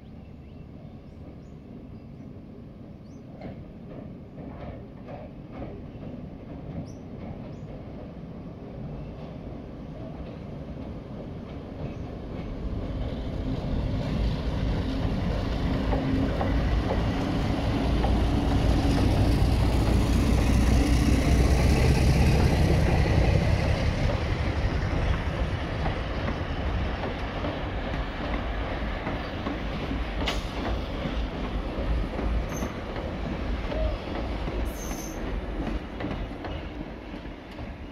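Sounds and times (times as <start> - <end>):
diesel locomotive engine rumble: 0.0 - 37.9
train wheels clacking on rail joints: 3.3 - 8.2, 9.2 - 37.9.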